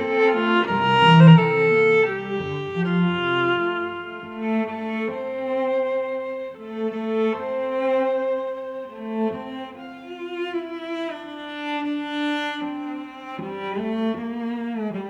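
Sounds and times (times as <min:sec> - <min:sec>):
violin and cello playing slow notes: 0:00.0 - 0:15.0.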